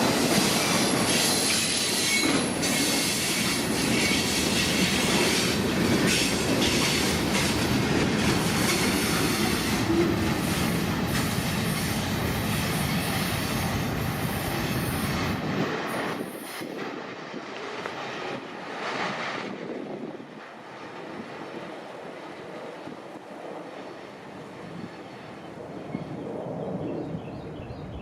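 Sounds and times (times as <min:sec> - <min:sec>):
train wheels rumbling on rails: 0:00.0 - 0:26.2.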